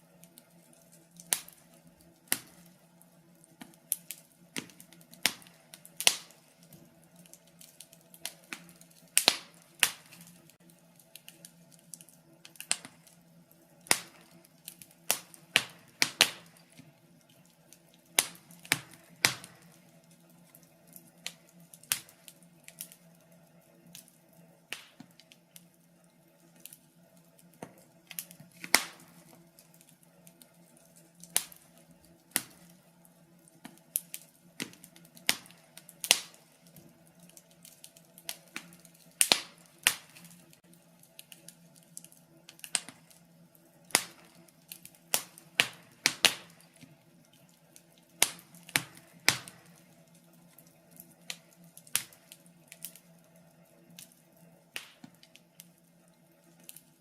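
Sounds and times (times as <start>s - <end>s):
faint steady hum: 0.0s - 57.0s
wood fire crackling: 0.0s - 57.0s.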